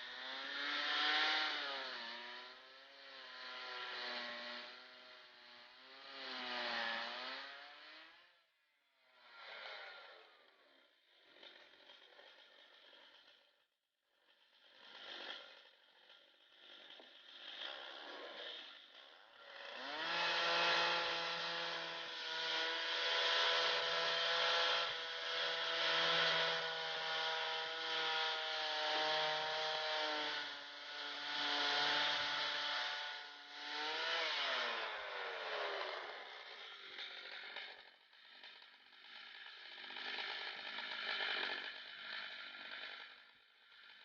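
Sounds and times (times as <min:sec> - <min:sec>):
chainsaw engine revving: 0:00.0 - 0:44.0.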